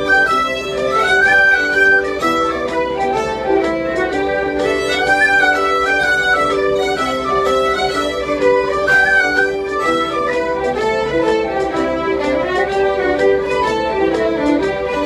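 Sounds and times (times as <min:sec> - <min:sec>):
fiddles playing a tune: 0:00.0 - 0:15.0.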